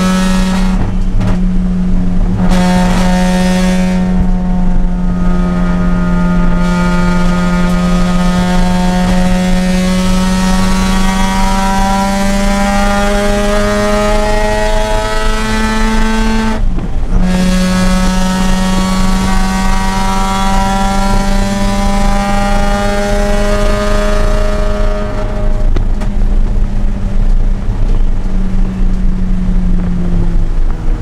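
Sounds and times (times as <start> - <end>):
rotary engine at full throttle: 0.0 - 31.0.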